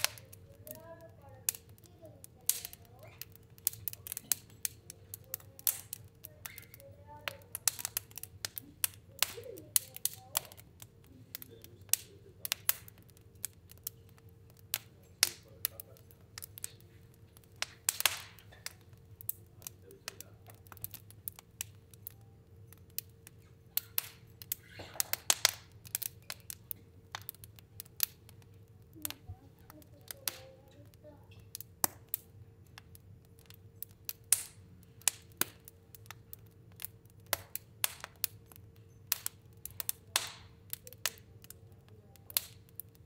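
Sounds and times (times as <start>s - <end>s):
fire crackling in a stove: 0.0s - 43.0s
hissing flares: 0.0s - 43.0s
low steady hum: 0.0s - 43.0s.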